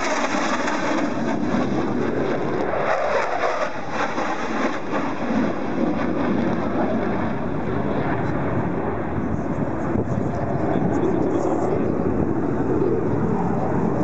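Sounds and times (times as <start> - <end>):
jet engine in flight: 0.0 - 14.0.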